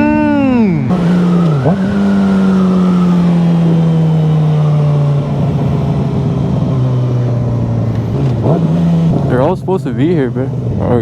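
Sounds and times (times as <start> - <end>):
loud motorcycle engine running: 0.0 - 11.0.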